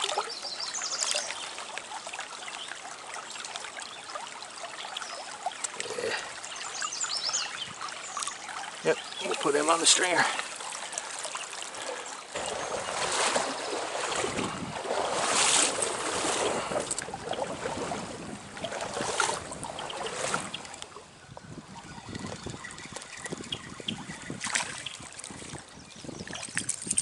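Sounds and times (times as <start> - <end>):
stream water splashing: 0.0 - 27.0.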